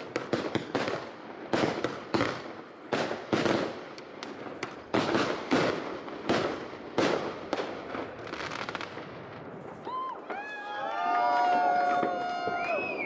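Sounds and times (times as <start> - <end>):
firework crackles: 0.0 - 13.0
fireworks bursting with loud bangs: 0.0 - 13.0.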